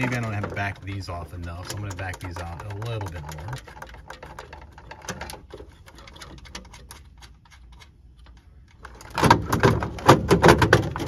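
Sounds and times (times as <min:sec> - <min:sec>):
metal and plastic clattering: 0:00.0 - 0:11.0.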